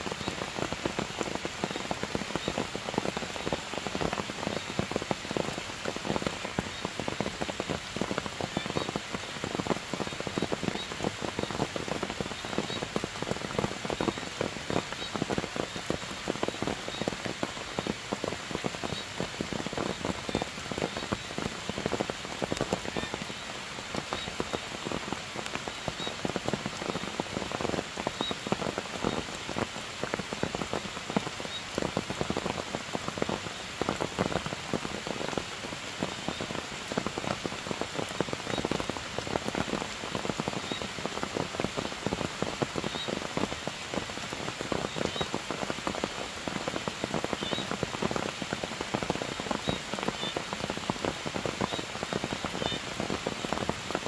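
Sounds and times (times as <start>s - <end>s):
heavy rain on foliage: 0.0s - 54.0s.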